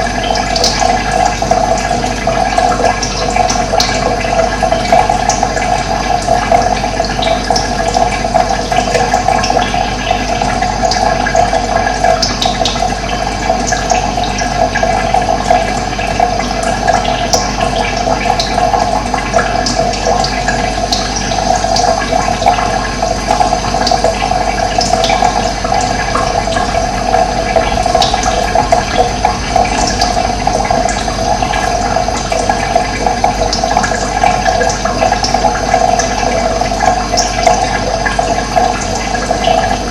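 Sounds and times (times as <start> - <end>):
rushing running water: 0.0 - 39.9.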